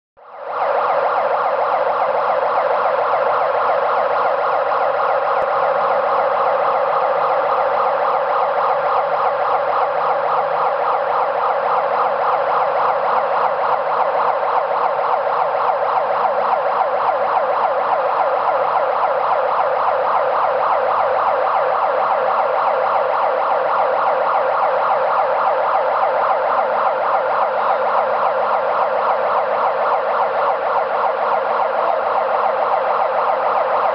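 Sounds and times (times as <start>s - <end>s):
warbling warning siren: 0.2s - 33.9s.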